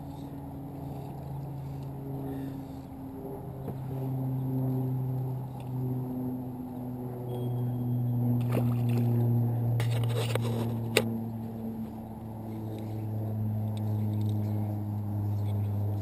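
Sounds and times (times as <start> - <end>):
electric trolling motor humming: 0.0 - 16.0.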